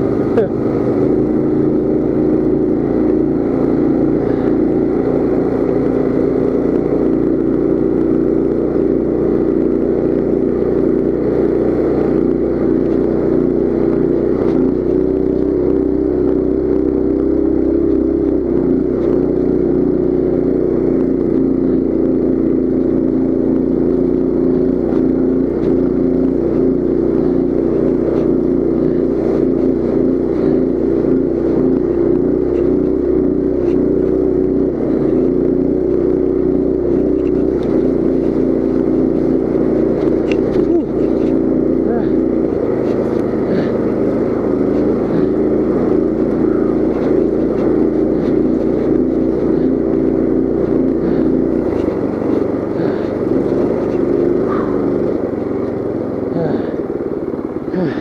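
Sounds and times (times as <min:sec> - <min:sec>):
mini bike engine running: 0:00.0 - 0:58.0.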